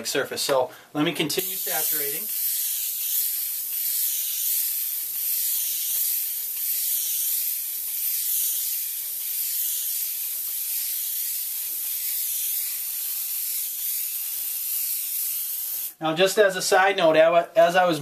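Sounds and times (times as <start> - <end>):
airbrush spraying hiss: 1.4 - 16.0.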